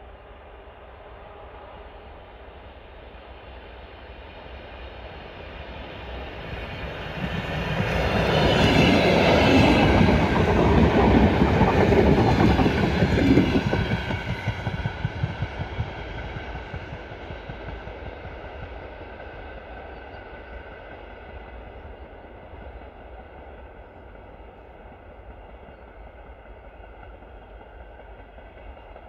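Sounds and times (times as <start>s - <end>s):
electric train rumbling past: 0.0s - 29.0s.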